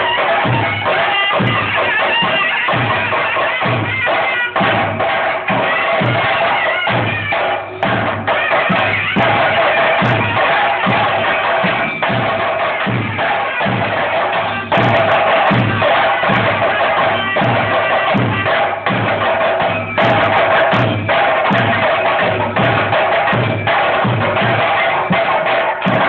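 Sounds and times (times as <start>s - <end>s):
drums beaten in steady rhythm: 0.0s - 26.0s.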